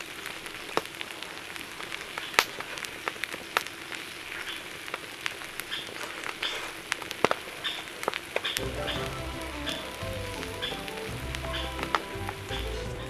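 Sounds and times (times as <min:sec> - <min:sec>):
food sizzling in a pan: 0:00.0 - 0:13.0
oil popping and crackling: 0:00.0 - 0:13.0.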